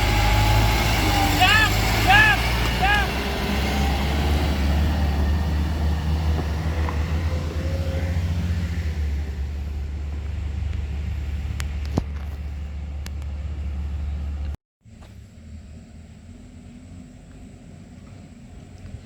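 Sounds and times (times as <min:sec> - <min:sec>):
diesel engine rumbling: 0:00.0 - 0:19.0
quiet outdoor background: 0:00.0 - 0:19.0.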